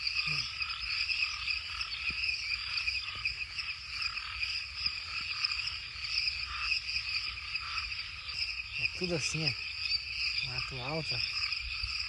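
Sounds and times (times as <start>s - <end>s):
frog calls: 0.0s - 12.0s
insects trilling: 0.0s - 12.0s.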